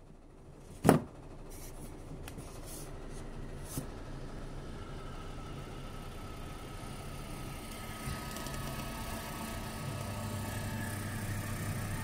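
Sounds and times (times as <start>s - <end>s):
incubator fan humming: 0.0s - 12.0s.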